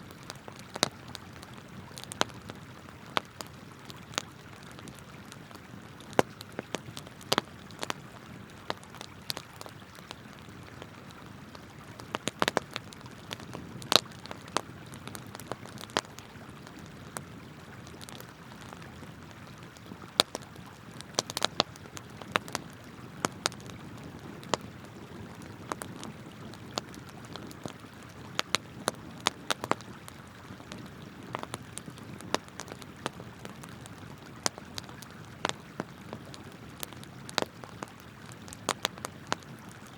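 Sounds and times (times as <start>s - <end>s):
campfire crackling and popping: 0.0s - 39.9s
flowing river water: 0.0s - 39.9s.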